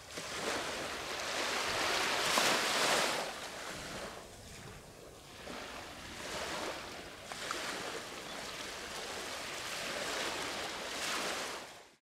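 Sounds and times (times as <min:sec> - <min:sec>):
sea waves washing: 0:00.0 - 0:11.8.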